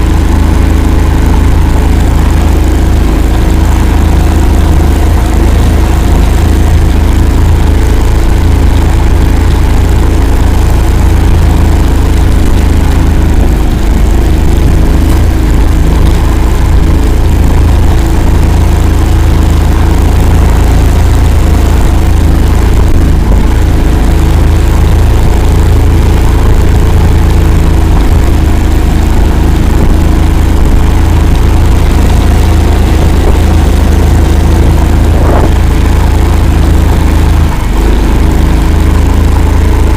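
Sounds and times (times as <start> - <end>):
vehicle engine deep rumble: 0.0 - 39.9.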